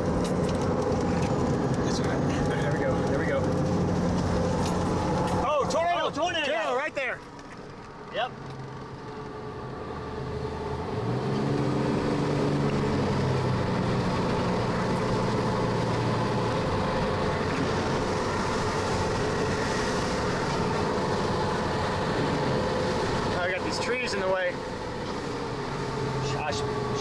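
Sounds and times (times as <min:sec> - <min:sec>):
road and wind noise: 0:00.0 - 0:27.0
vehicle engine hum: 0:00.0 - 0:27.0.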